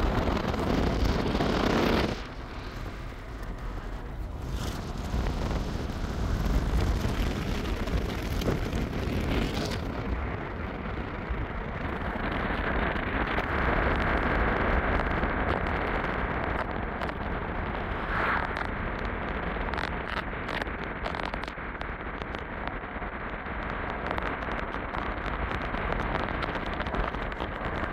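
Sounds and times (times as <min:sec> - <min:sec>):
vehicle interior rumble and hiss: 0:00.0 - 0:27.9.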